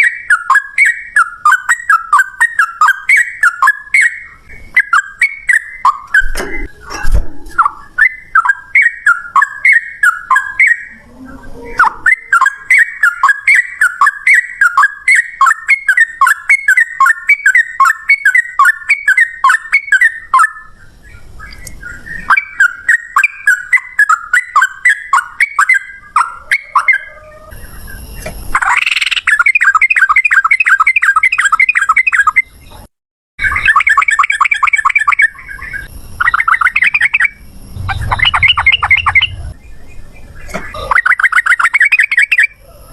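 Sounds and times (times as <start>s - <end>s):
bird chattering song: 0.0s - 42.6s.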